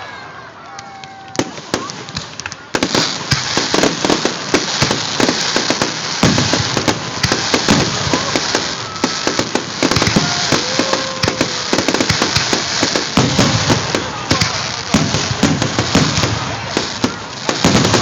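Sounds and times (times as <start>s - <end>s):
fireworks bangs and crackling: 1.0s - 18.0s
firework whistles: 2.9s - 18.0s.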